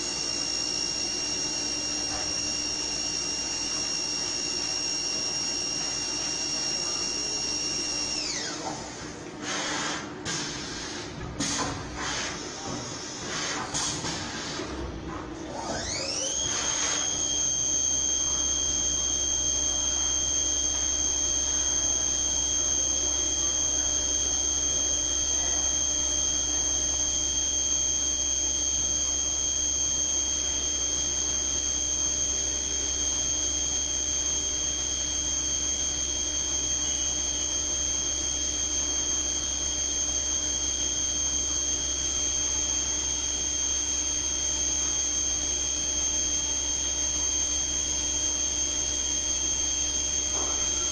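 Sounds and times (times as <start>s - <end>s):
milling machine spindle whine: 0.0s - 9.2s, 11.6s - 50.9s.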